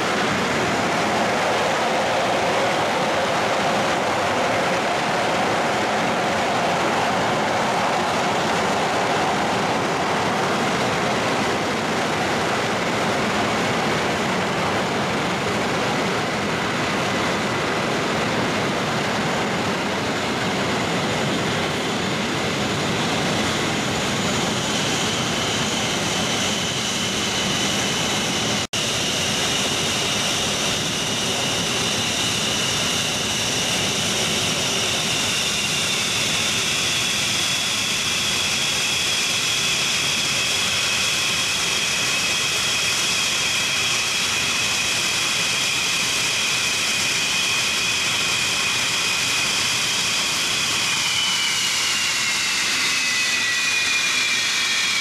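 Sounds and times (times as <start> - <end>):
jet engines roaring at idle: 0.0 - 55.0.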